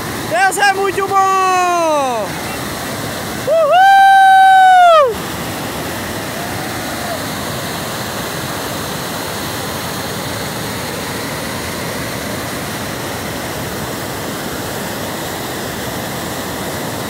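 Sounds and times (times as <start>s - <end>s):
flood water roaring: 0.0s - 17.0s.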